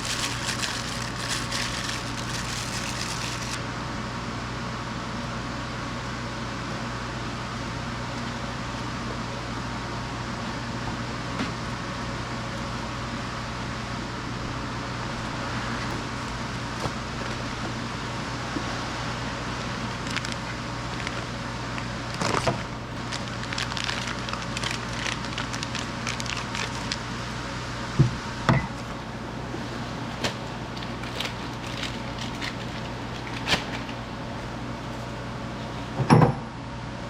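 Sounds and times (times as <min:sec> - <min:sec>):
steady workshop hum: 0:00.0 - 0:37.0.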